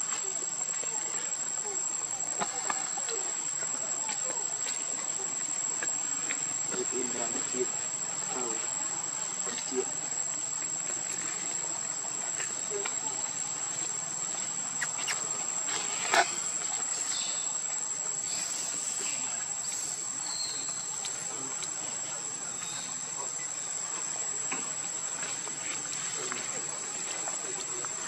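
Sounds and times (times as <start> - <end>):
high-pitched insect drone: 0.1 - 24.2.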